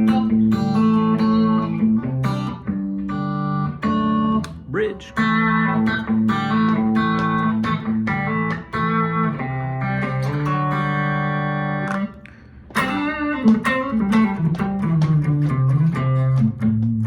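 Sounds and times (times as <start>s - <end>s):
electric guitar picked notes and chords: 0.0s - 17.0s.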